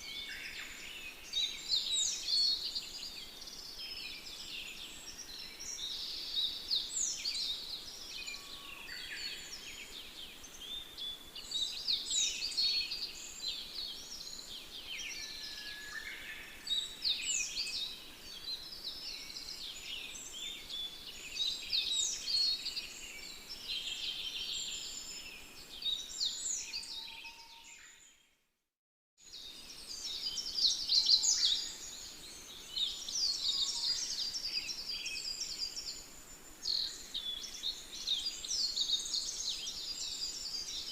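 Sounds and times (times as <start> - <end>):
faint background hiss: 0.0 - 27.8, 29.2 - 40.9.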